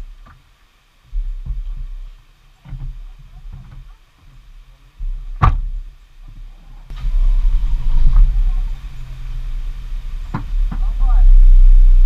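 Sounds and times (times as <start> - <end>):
hiss: 0.0 - 12.0
vehicle low rumble: 0.0 - 12.0.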